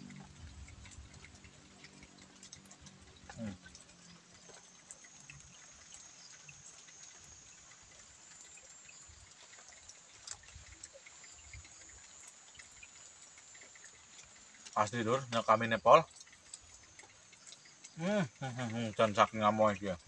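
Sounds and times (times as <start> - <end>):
soft ticks: 0.0 - 20.0.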